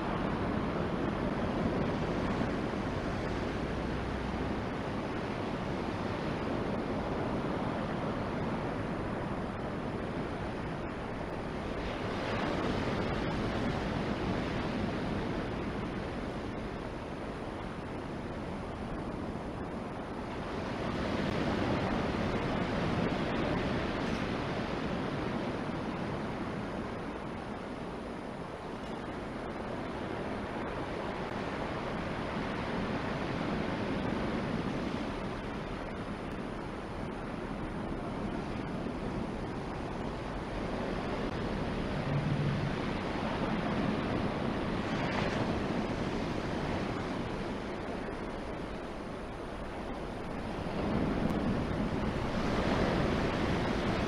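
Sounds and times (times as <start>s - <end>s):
ocean surf breaking: 0.0s - 54.0s
wind on microphone: 0.0s - 54.0s.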